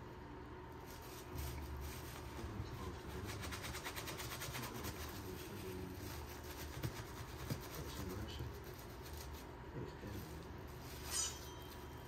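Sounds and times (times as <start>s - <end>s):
low steady hum: 0.0s - 12.0s
towel rubbing plastic: 0.8s - 12.0s.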